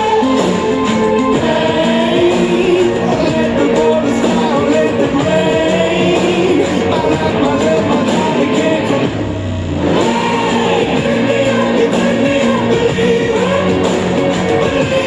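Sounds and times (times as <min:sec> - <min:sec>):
rock song through speakers: 0:00.0 - 0:15.0.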